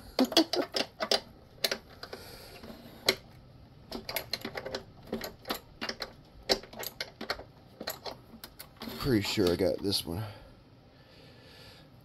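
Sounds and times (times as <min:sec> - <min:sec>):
small hard parts clicking: 0:00.0 - 0:09.9.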